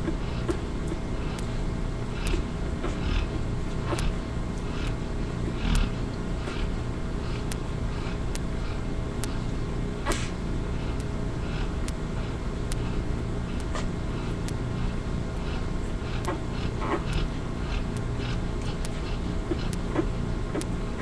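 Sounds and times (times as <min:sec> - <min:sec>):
low steady rumble: 0:00.0 - 0:21.0
puppies sucking clicks: 0:00.0 - 0:21.0.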